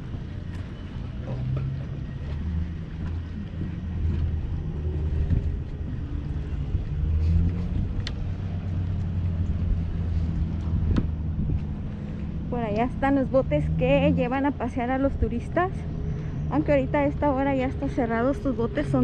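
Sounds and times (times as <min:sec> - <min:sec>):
engine rumble: 0:00.0 - 0:19.0.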